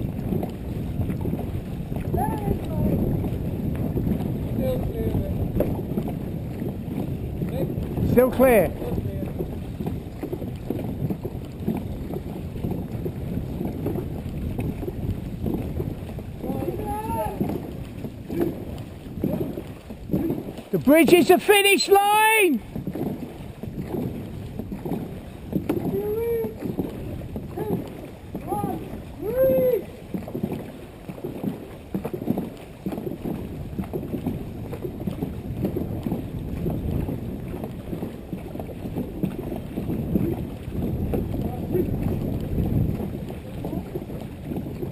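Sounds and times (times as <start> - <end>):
boat hull rushing through water: 0.0 - 44.9
paddles striking water: 0.0 - 44.9
wind buffeting microphone: 0.0 - 44.9.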